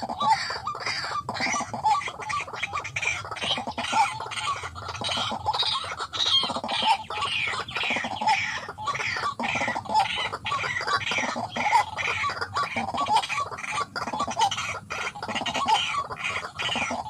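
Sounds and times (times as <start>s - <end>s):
waterhen calling with harsh clucks: 0.0s - 17.0s.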